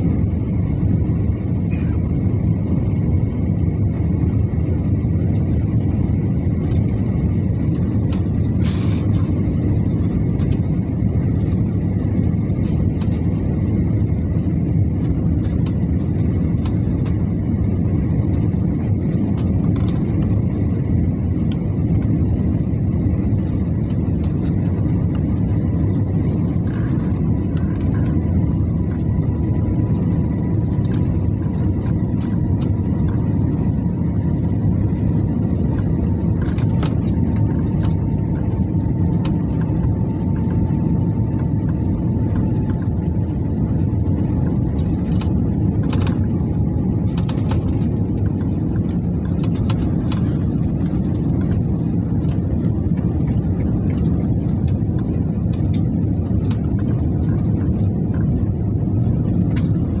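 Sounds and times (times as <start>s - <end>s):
jet engines and rushing air: 0.0s - 60.0s.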